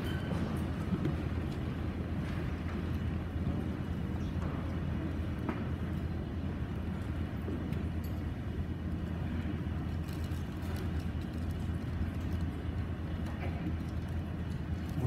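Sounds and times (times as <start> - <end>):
low rumble of waiting audience: 0.0 - 15.0
faint clicks and rustles: 0.3 - 15.0.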